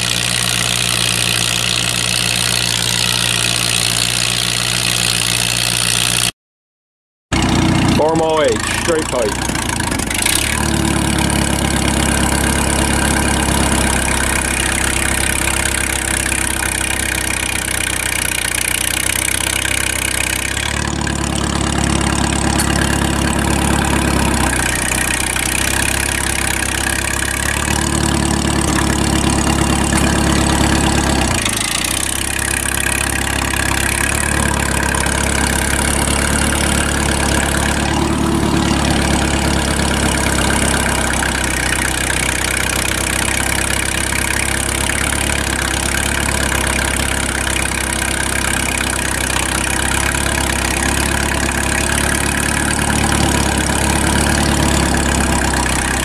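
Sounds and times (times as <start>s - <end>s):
tractor engine running: 0.0s - 6.3s, 7.3s - 56.0s.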